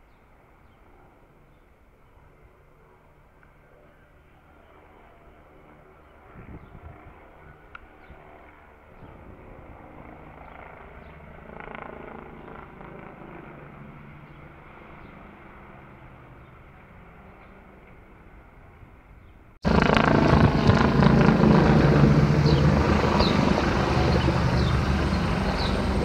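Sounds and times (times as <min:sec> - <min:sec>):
helicopter rotor drone: 0:00.4 - 0:26.0.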